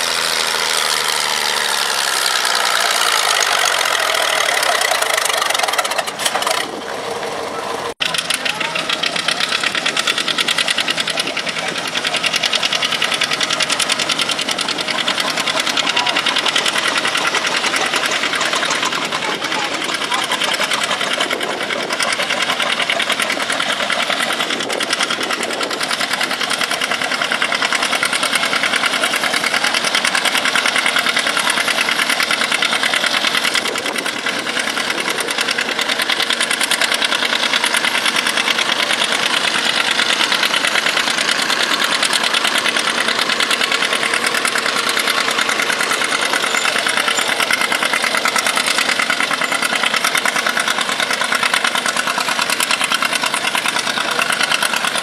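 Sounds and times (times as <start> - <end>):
tractor engine under full load: 0.0 - 55.0.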